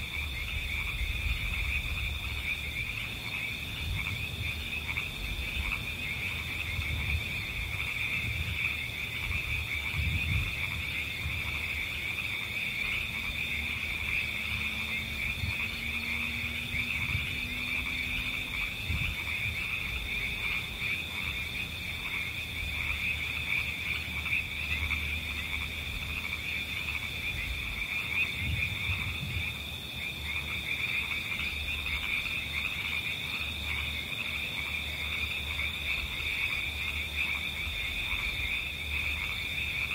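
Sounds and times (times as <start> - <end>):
frogs and insects calling: 0.0 - 39.9.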